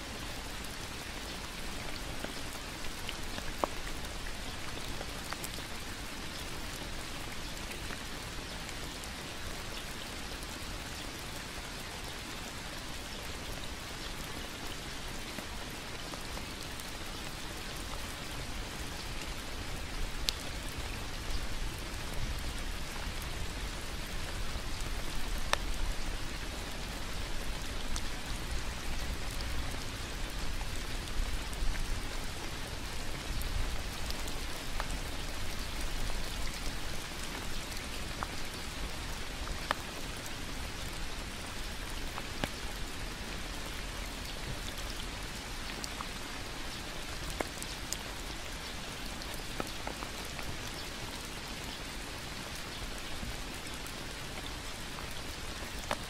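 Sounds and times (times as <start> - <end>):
steady rain hiss: 0.0 - 56.0
raindrop ticks: 0.4 - 9.1, 13.2 - 51.8, 52.4 - 56.0.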